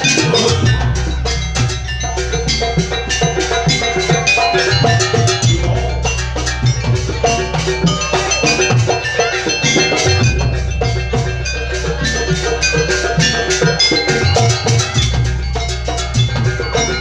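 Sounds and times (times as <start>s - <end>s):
drums struck fast: 0.0s - 17.0s
low sustained ringing: 0.0s - 17.0s
metal keyed percussion: 0.0s - 17.0s.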